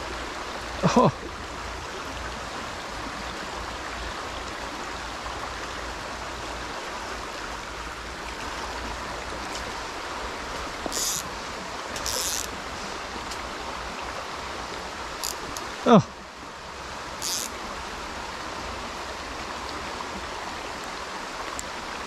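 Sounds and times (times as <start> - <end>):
brook running over stones: 0.0 - 22.0.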